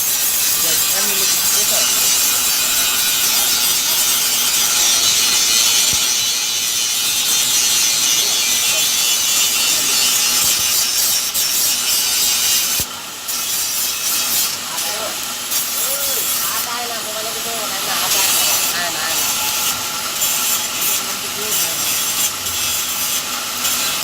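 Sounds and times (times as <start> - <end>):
tool grinding hiss: 0.0 - 24.0.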